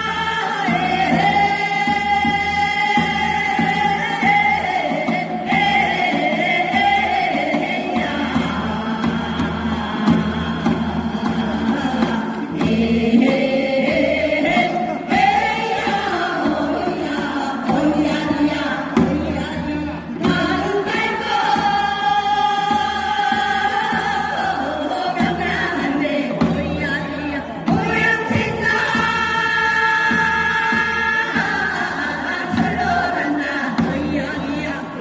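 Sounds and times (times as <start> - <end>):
group of voices singing: 0.0 - 35.0.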